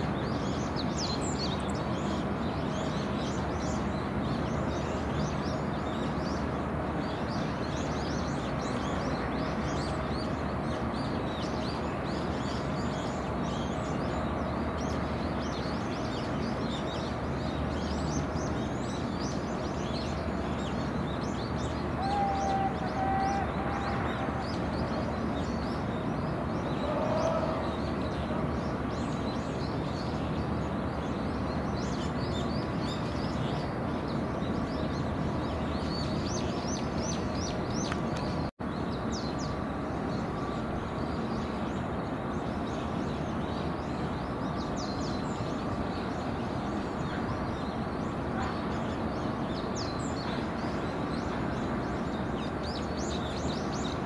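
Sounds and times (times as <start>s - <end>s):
small birds chirping: 0.0s - 54.0s
steady low harbour hum: 0.0s - 54.0s.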